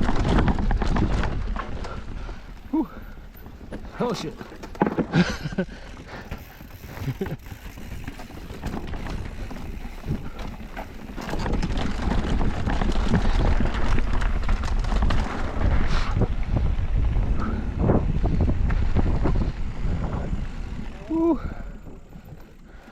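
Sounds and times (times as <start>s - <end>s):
bike rattling down dirt trail: 0.0s - 22.9s
wind buffeting microphone: 0.0s - 22.9s.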